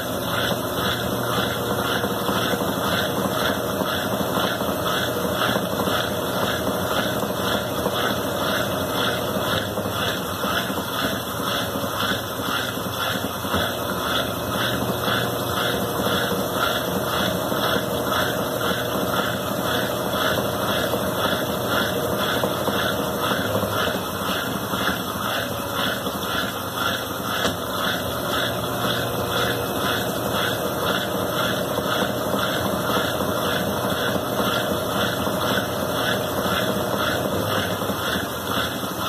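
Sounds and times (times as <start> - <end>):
washing machine running: 0.0 - 39.0.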